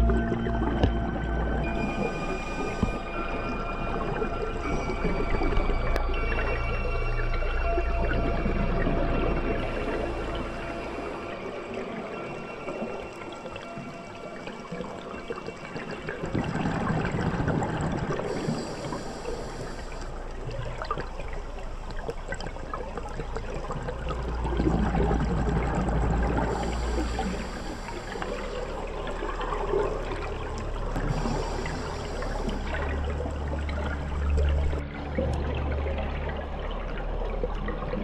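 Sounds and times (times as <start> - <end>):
underwater bubbling and rushing: 0.0 - 38.0.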